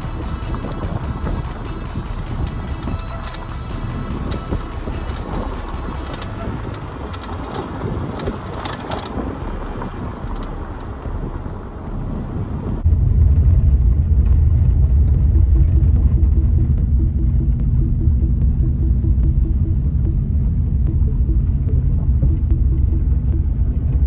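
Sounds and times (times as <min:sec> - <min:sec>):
loud low rumble: 0:00.0 - 0:06.8, 0:10.3 - 0:24.0
car engine and road noise: 0:00.0 - 0:24.0.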